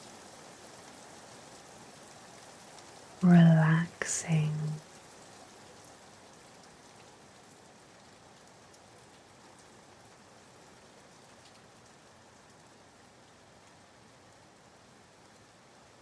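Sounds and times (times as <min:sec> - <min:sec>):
small raindrop ticks: 0:00.0 - 0:16.0
soft steady rain hiss: 0:00.0 - 0:16.0.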